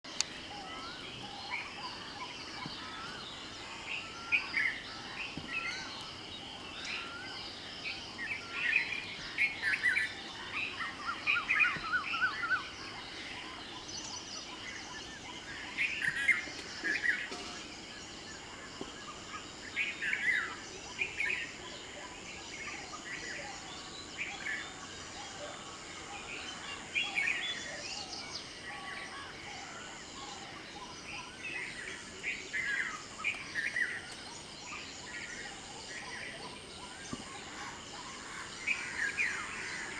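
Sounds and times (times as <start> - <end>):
birds chirping and singing: 0.1 - 39.9.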